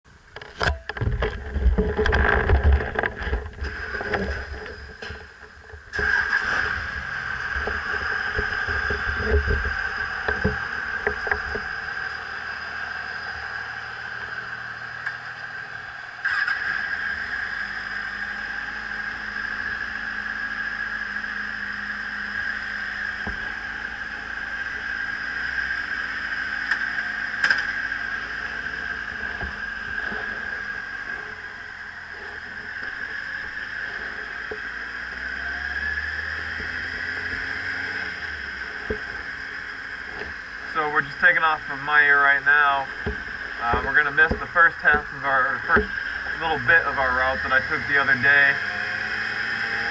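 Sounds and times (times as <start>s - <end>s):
motorcycle engine running: 0.2s - 49.9s.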